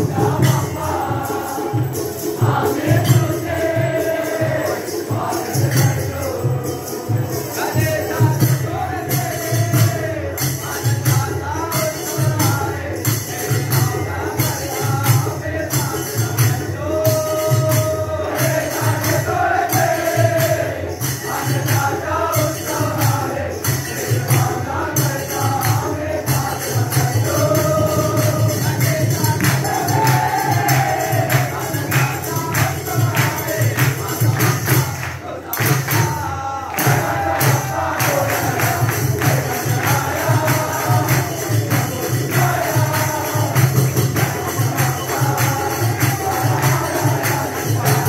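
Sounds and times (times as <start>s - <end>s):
group of voices singing: 0.0s - 48.0s
jingling hand cymbals: 0.0s - 48.0s
steady drum beat: 0.0s - 48.0s.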